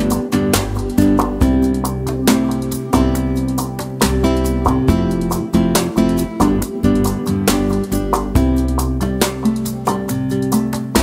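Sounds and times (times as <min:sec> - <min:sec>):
bass line: 0:00.0 - 0:11.0
steady beat: 0:00.0 - 0:11.0
strummed acoustic guitar: 0:00.0 - 0:11.0.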